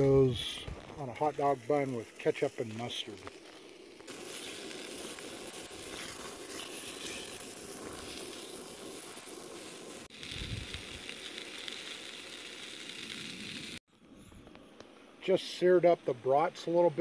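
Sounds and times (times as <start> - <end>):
sausages sizzling in a frying pan: 0.0 - 13.8
vegetables sizzling softly: 0.0 - 13.8.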